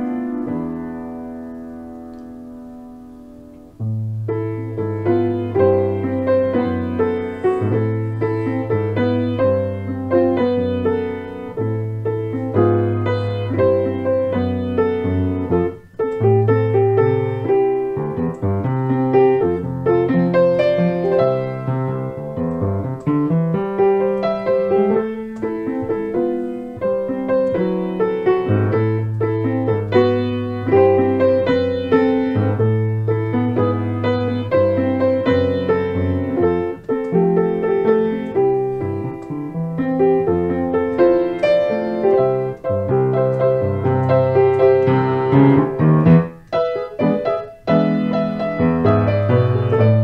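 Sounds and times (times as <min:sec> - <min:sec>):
solo piano piece: 0:00.0 - 0:50.0.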